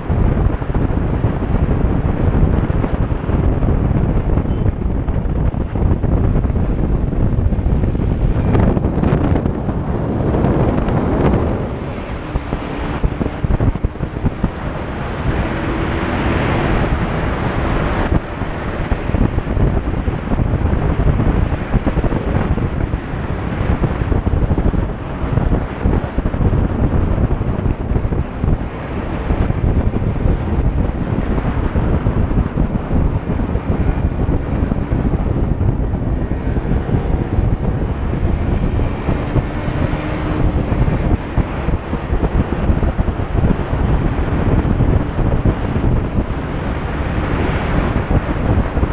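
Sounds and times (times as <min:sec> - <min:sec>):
motorcycle engine drone: 0:00.0 - 0:48.9
wind buffeting microphone: 0:00.0 - 0:48.9.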